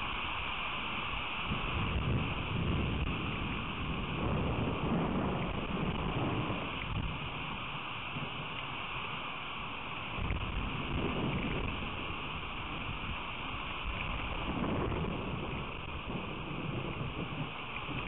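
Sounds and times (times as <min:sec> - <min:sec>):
rain hissing: 0:00.0 - 0:18.0
wind buffeting microphone: 0:01.4 - 0:08.8, 0:10.1 - 0:18.0.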